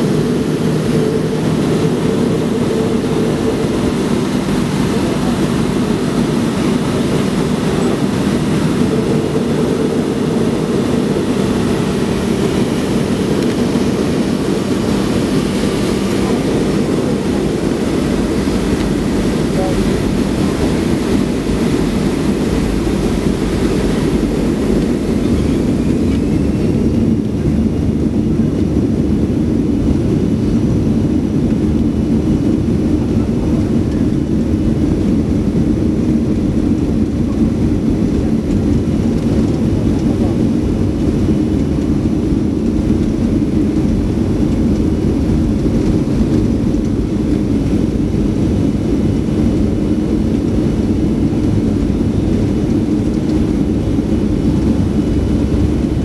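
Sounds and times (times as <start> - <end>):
jet engines rumbling from cabin: 0.0 - 56.0.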